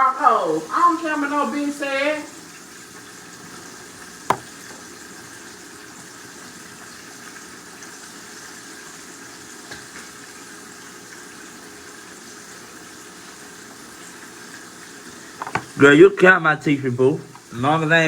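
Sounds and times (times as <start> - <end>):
food bubbling and hissing: 0.0 - 18.0.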